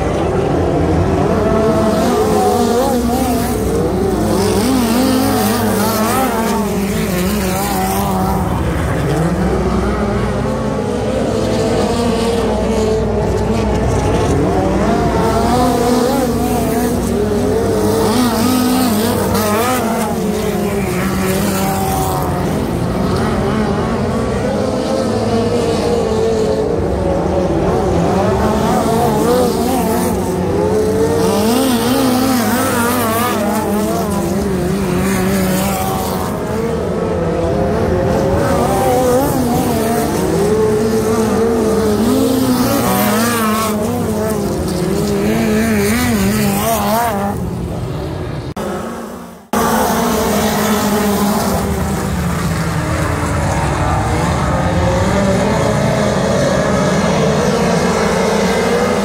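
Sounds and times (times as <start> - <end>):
race car engines passing: 0.0 - 59.0.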